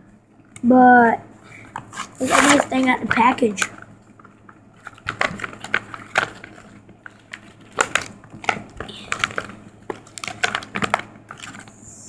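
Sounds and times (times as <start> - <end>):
plastic packaging crinkling: 1.8 - 11.8.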